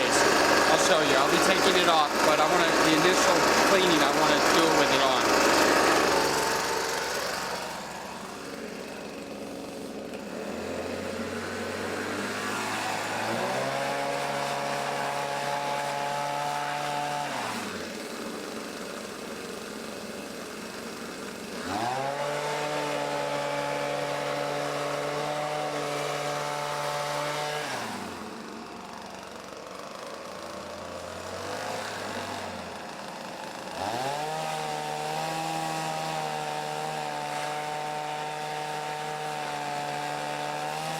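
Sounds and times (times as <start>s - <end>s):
leaf blower revving and idling: 0.0s - 40.9s.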